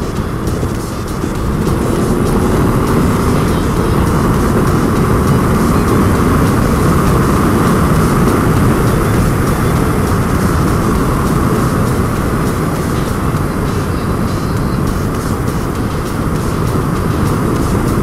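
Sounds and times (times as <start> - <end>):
motorcycle engine cruising: 0.0 - 18.0
wind rush on microphone: 0.0 - 18.0.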